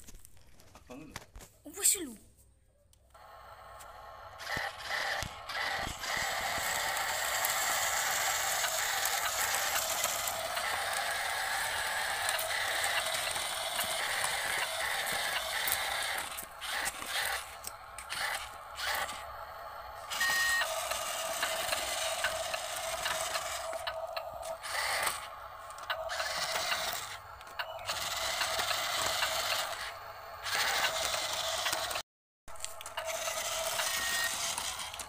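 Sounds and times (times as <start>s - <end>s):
toy truck motor whirring: 3.1s - 35.0s.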